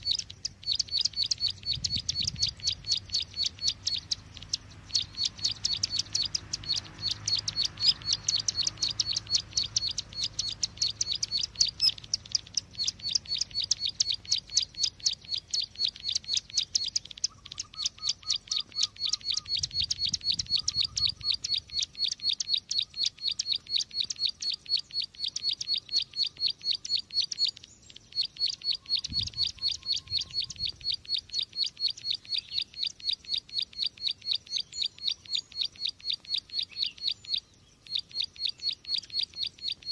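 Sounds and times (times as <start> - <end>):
bird lure call of sharp high chips: 0.0 - 39.9.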